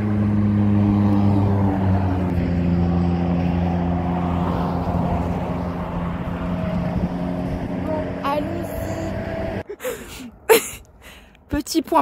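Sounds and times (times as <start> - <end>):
motor droning: 0.0 - 9.6.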